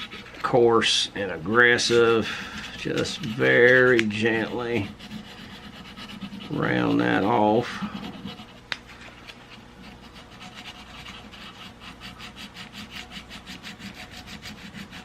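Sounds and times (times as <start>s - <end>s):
sandpaper rubbing on steel: 0.0s - 15.0s.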